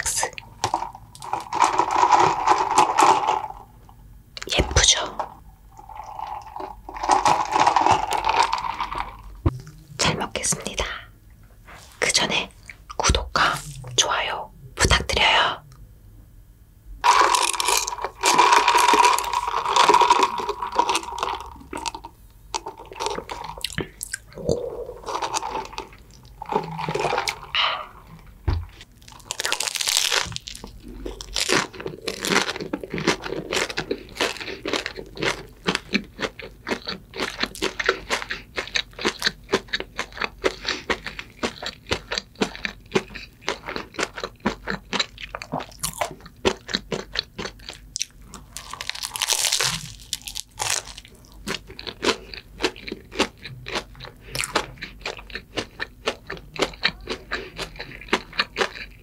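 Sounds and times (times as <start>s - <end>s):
crunching and chewing food: 0.1s - 11.0s, 17.0s - 59.0s.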